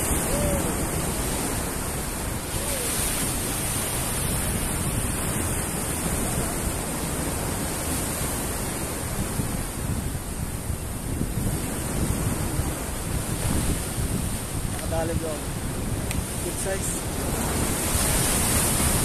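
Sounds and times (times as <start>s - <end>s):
surf breaking on rocks: 0.0s - 9.2s, 11.4s - 19.0s.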